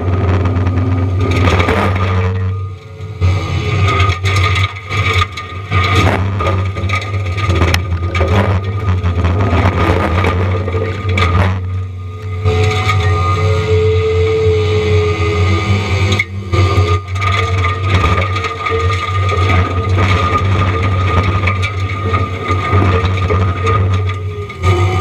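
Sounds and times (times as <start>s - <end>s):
wood cracking and splintering: 0.0s - 13.4s, 16.0s - 25.0s
low diesel drone: 0.0s - 25.0s.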